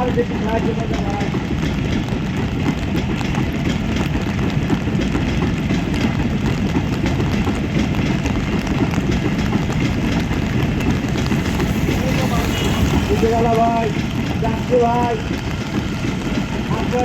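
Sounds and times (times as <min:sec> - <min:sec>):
freight train rolling: 0:00.0 - 0:17.0.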